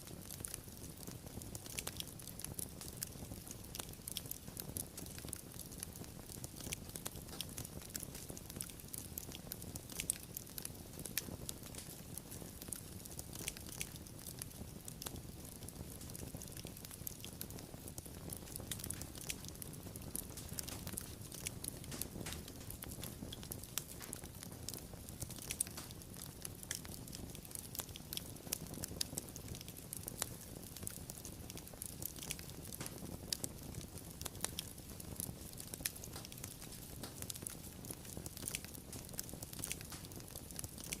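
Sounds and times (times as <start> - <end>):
low rumble of flame: 0.0 - 41.0
wood fire crackling popping: 0.0 - 41.0.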